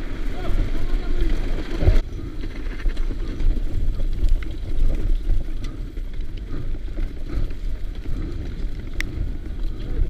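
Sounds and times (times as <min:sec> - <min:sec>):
bike clicks and rattles: 0:00.0 - 0:10.0
bike tyres rumbling: 0:00.0 - 0:10.0.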